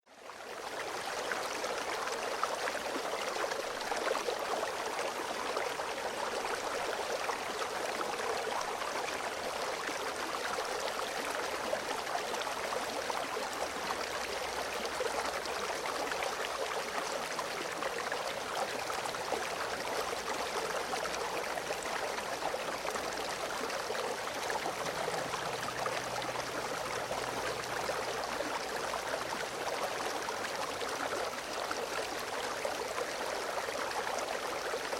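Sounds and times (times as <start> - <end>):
creek water gurgling over stones: 0.1 - 34.9.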